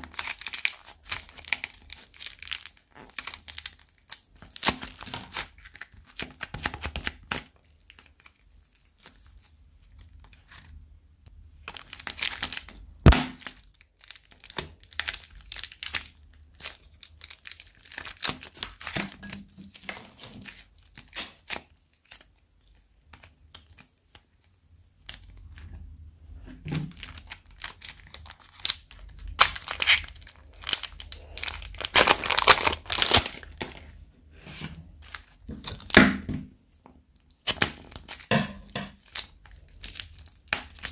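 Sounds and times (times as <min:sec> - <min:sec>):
slime crackling and tearing: 0:00.0 - 0:10.8, 0:11.6 - 0:25.9, 0:26.8 - 0:34.0, 0:37.1 - 0:40.9.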